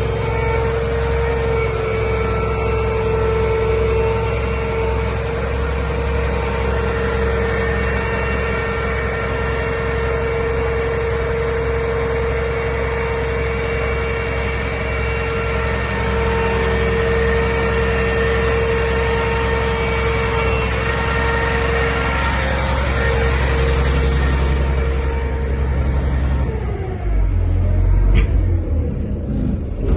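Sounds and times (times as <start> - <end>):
fire truck engine idling: 4.0 - 28.5.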